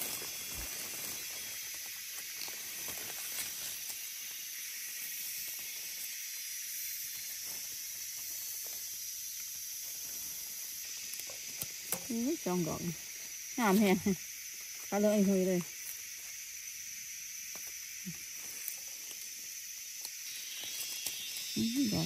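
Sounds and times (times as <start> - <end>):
insects droning: 0.0 - 22.0
scraping and rustling in leaves: 0.0 - 22.0.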